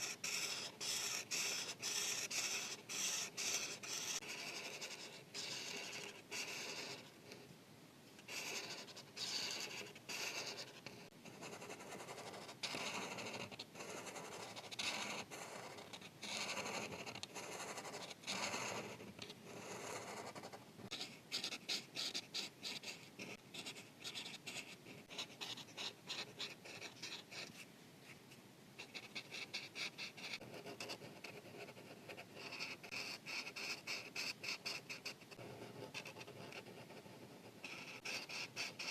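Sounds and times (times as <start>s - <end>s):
marker scratching on paper: 0.0s - 7.4s, 8.2s - 28.2s, 28.8s - 38.9s.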